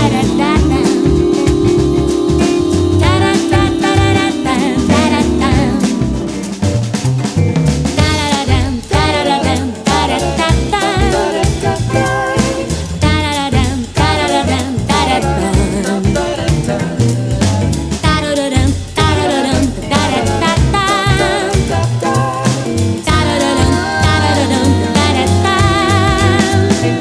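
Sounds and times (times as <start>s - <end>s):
person singing: 0.0s - 6.7s, 8.0s - 27.0s
swing music: 0.0s - 27.0s.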